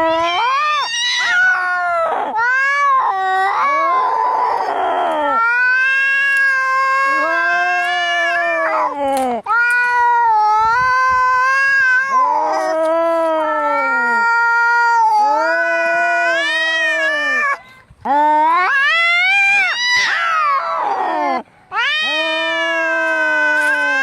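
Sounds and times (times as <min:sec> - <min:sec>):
cats yowling in a fight: 0:00.0 - 0:24.0.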